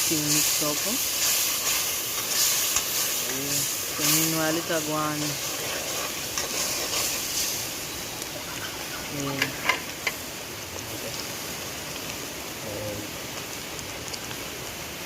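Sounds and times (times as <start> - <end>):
paste sizzling in hot oil: 0.0 - 14.5.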